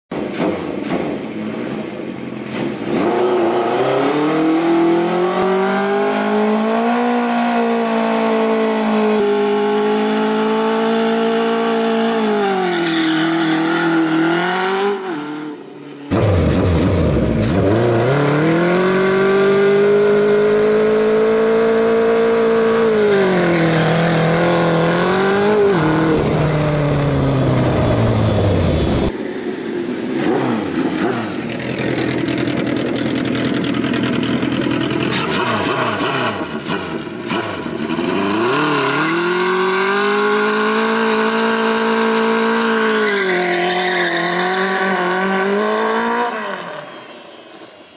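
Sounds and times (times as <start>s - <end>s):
motorcycle engine revving: 0.1s - 47.3s.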